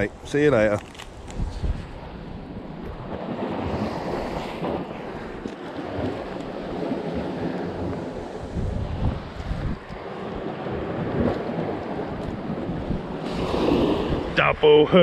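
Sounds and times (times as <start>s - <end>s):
wind buffeting microphone: 0.0s - 15.0s
waves washing against rocky shore: 1.4s - 15.0s.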